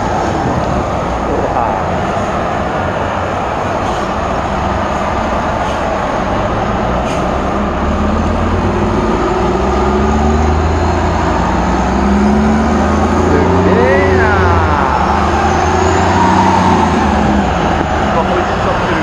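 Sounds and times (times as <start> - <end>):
armoured vehicles driving past: 0.0 - 19.0
tyres humming on road: 0.0 - 19.0.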